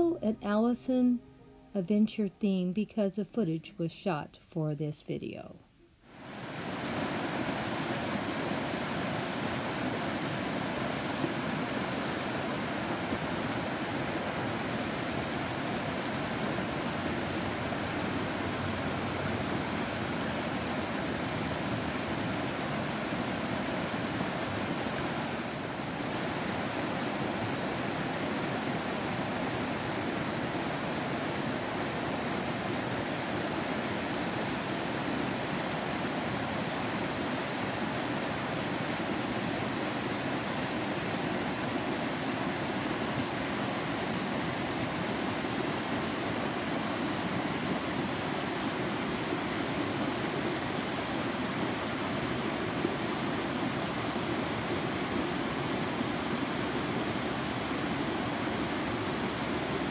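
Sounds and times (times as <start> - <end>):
creek rushing over rocks: 6.1 - 59.9.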